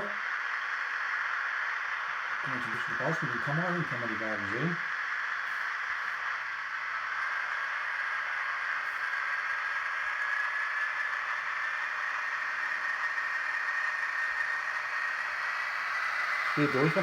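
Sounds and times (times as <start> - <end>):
model train diesel engine sound: 0.0 - 17.0.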